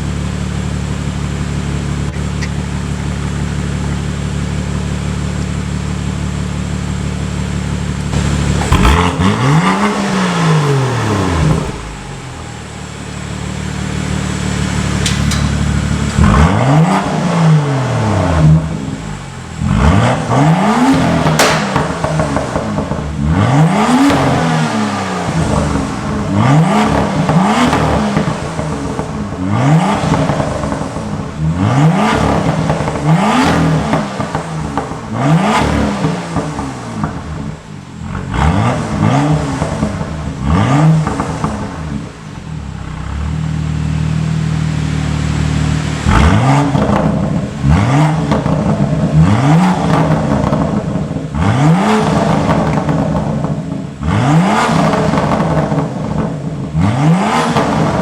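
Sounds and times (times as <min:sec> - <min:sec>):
car engine idling: 0:00.0 - 0:58.0
car engine revving: 0:00.0 - 0:58.0.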